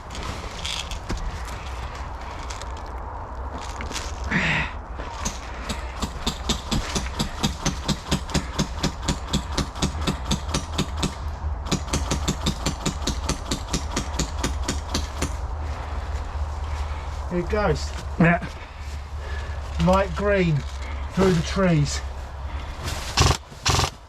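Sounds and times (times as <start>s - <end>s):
low rumble of wind on microphone: 0.0s - 24.0s.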